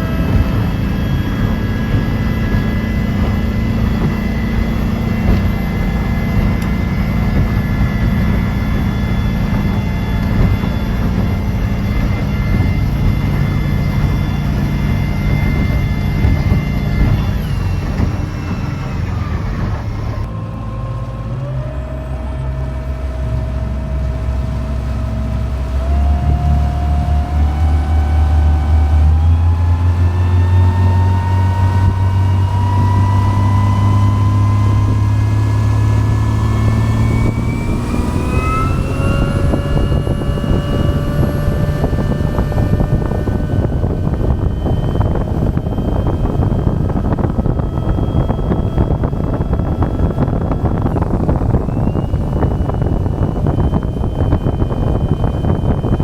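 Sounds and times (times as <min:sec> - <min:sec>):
boat diesel engine accelerating: 0:00.0 - 0:56.0
high engine whine: 0:00.0 - 0:56.0
rushing wind and water: 0:00.0 - 0:56.0.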